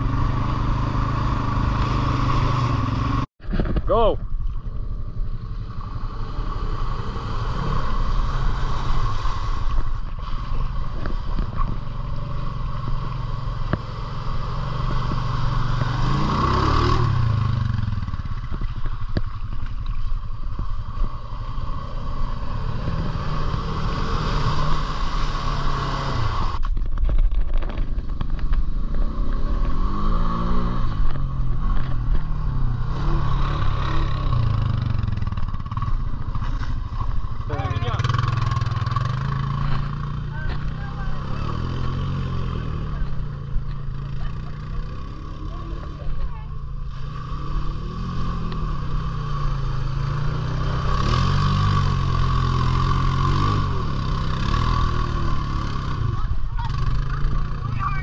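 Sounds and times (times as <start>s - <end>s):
off-road vehicle engine revving: 0.0s - 3.3s, 5.3s - 19.2s, 20.9s - 26.6s, 28.7s - 58.0s.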